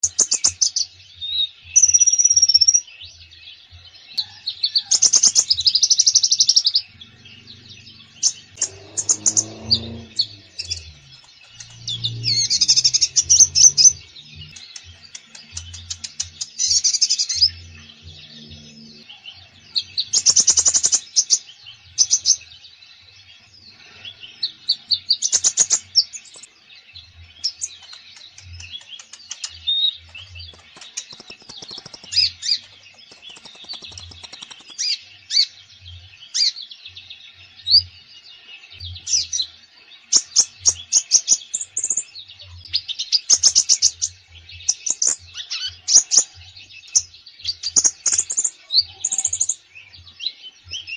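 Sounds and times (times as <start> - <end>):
bird singing whistles and trills: 0.0 - 50.9.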